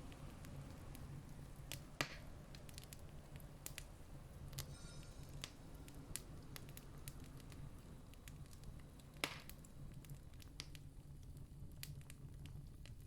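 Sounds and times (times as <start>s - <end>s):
campfire crackling: 0.0s - 4.7s, 5.4s - 13.0s.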